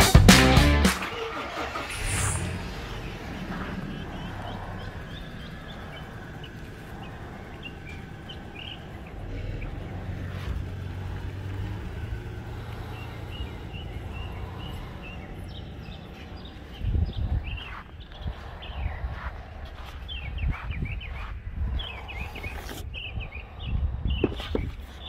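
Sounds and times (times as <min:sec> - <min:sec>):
low steady rumble: 0:01.8 - 0:22.4
small birds chirping: 0:02.0 - 0:25.0.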